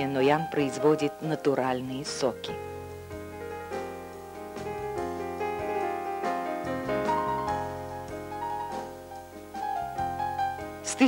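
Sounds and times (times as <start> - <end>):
piano melody over chords: 0.0 - 11.0.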